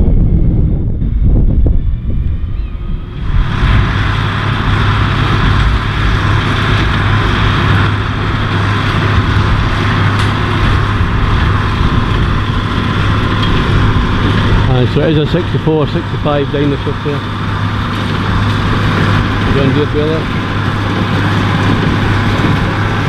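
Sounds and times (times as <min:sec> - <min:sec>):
baler working: 0:00.0 - 0:23.0
tractor engine running: 0:00.0 - 0:23.0.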